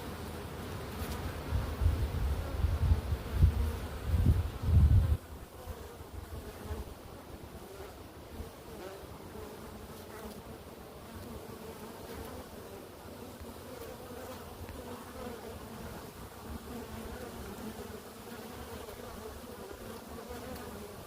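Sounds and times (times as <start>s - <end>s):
honey bees buzzing: 0.0s - 21.0s.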